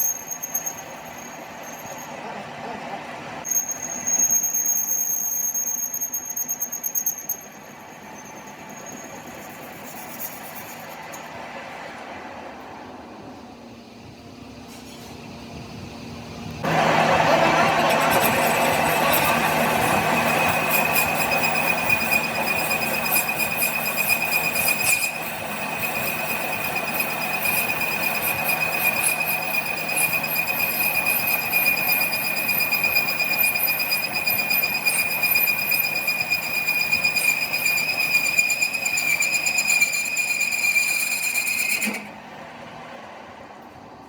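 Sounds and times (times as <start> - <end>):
metalworking machine squealing: 0.0 - 2.4, 3.4 - 11.4, 16.6 - 42.2.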